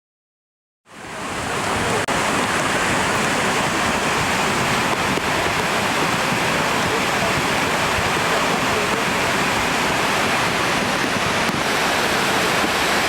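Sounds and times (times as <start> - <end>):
rushing water: 0.8 - 13.0.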